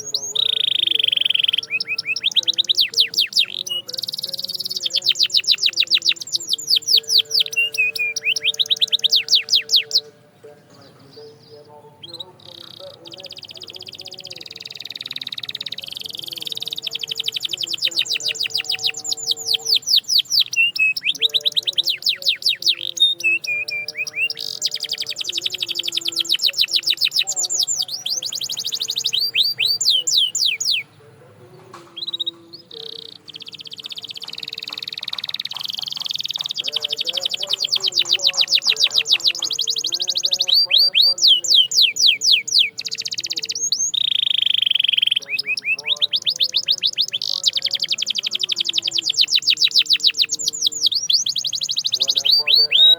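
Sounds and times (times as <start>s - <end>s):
canary trilling song: 0.0s - 52.9s.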